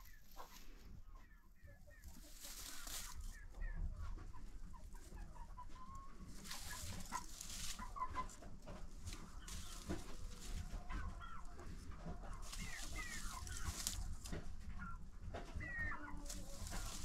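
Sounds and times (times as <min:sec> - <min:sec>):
dry straw rustling: 0:00.0 - 0:17.0
poultry clucking and chirping: 0:00.0 - 0:17.0.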